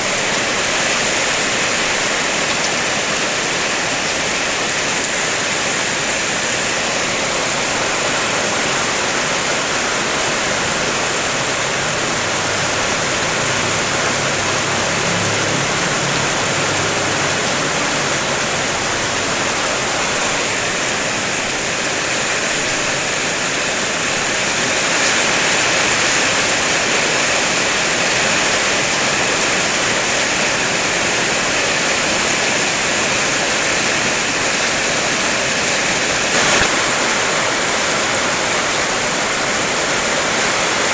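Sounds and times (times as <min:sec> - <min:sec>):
heavy rain on car roof: 0:00.0 - 0:40.9.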